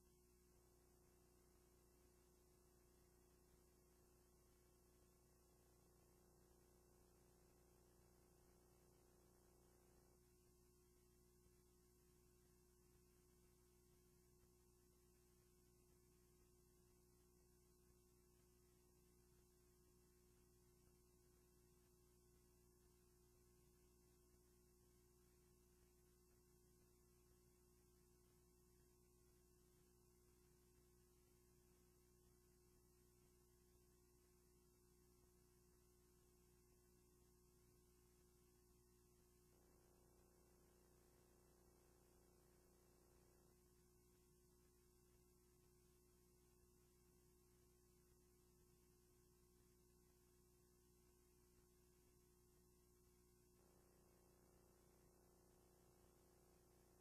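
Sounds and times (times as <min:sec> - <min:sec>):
faint steady hum: 0:00.0 - 0:57.0
thin constant tone: 0:00.0 - 0:57.0.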